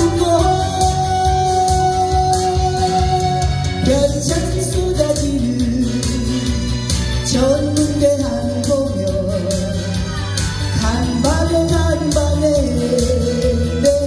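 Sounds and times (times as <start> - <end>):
woman singing into microphone: 0.0 - 10.1, 10.8 - 14.0
backing track with bass and drums: 0.0 - 14.0.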